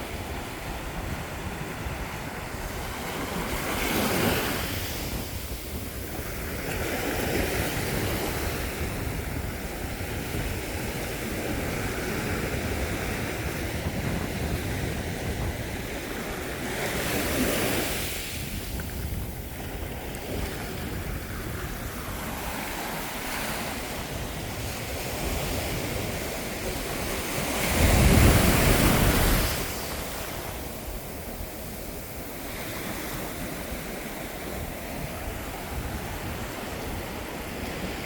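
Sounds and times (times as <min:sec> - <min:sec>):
ocean waves washing onto beach: 0:00.0 - 0:38.0
wind on microphone: 0:00.0 - 0:38.0.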